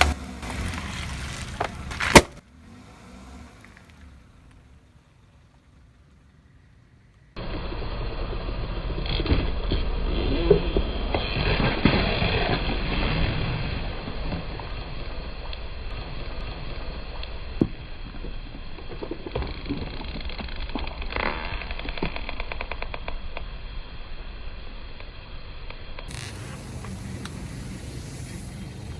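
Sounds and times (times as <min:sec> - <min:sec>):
objects crunching under tyres: 0:00.0 - 0:06.3, 0:08.9 - 0:23.2, 0:26.1 - 0:28.9
car engine running low: 0:00.0 - 0:28.9.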